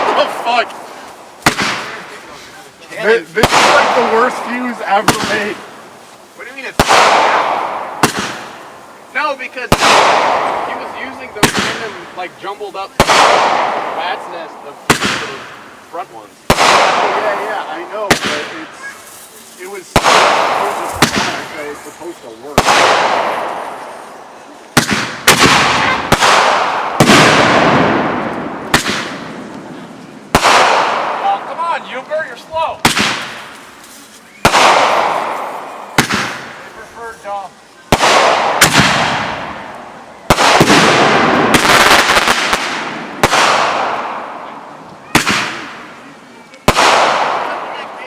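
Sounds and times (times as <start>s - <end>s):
fireworks bangs: 0.0s - 48.0s
fireworks crackle: 0.0s - 48.0s.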